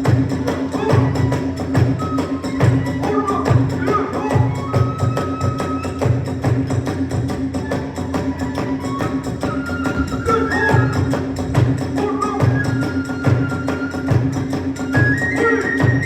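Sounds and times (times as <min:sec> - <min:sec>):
bamboo flute melody: 0:00.0 - 0:16.0
drums beating: 0:00.0 - 0:16.0
hand cymbals: 0:00.0 - 0:16.0.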